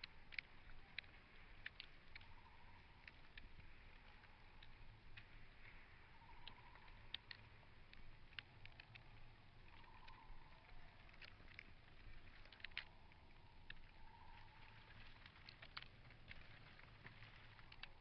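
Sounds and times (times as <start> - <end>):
faint ticks and crackles: 0.0 - 18.0.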